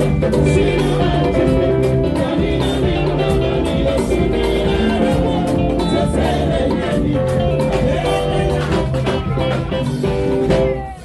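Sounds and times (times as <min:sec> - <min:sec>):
drum kit: 0:00.0 - 0:11.0
electric guitar: 0:00.0 - 0:11.0
keyboard: 0:00.0 - 0:11.0.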